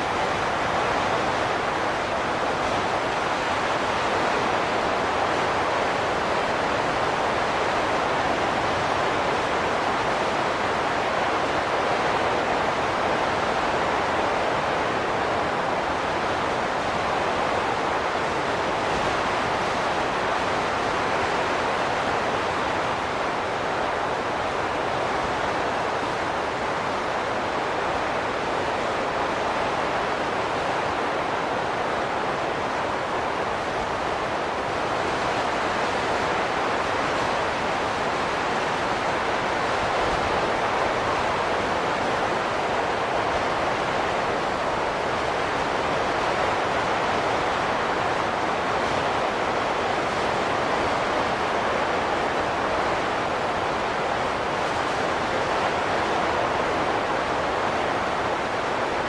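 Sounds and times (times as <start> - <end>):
wind blowing steadily: 0.0 - 59.0.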